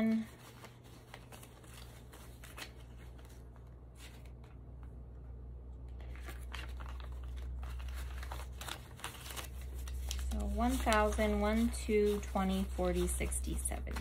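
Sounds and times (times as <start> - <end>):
paper banknotes rustling: 0.0 - 4.6, 6.0 - 14.0
steady low hum: 0.0 - 14.0.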